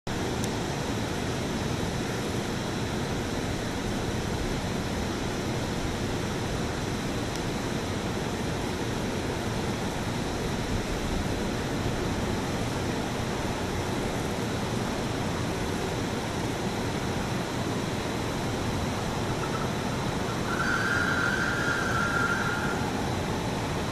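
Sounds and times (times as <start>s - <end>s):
steady rushing noise: 0.1s - 23.9s.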